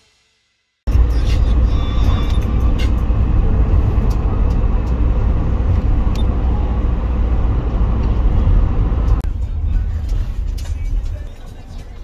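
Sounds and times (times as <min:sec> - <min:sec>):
van engine and road rumble: 0:00.9 - 0:12.0.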